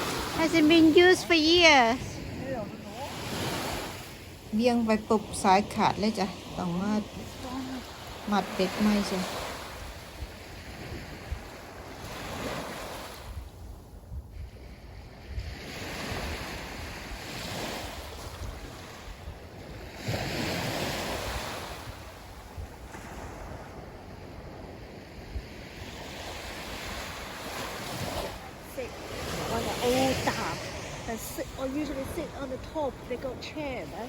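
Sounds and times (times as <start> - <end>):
sea waves breaking on beach: 0.0 - 34.0
wind rumbling on microphone: 0.0 - 34.0.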